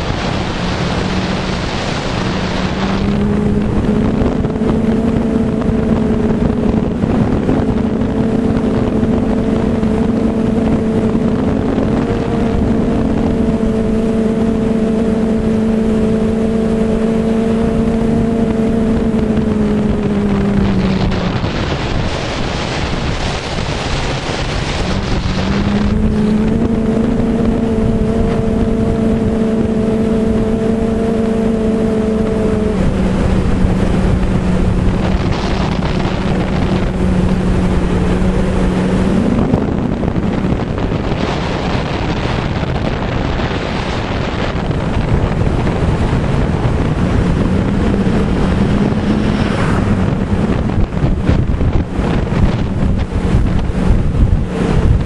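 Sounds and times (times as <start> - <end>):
low droning hum: 0.0 - 55.0
wind rushing over microphone: 0.0 - 55.0.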